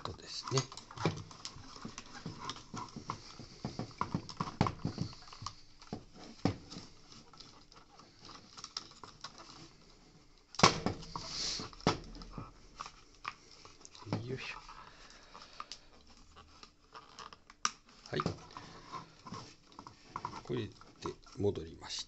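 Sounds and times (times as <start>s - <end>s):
plastic parts being handled: 0.0s - 22.0s
small clicks and scrapes: 0.0s - 22.0s.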